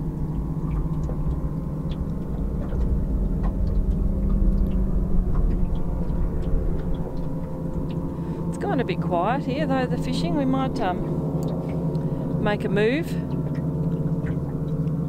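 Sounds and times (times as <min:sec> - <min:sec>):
motorboat engines droning: 0:00.0 - 0:15.0.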